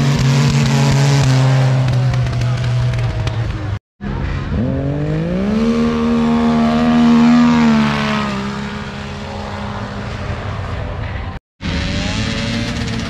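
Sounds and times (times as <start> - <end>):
snowmobile engine at high revs: 0.0 - 10.9, 11.6 - 13.0.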